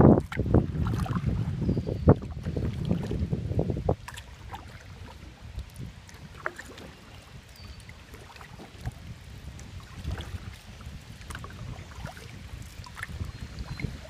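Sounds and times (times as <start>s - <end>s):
waves lapping against kayak hull: 0.0s - 14.0s
wind buffeting microphone: 0.0s - 14.0s.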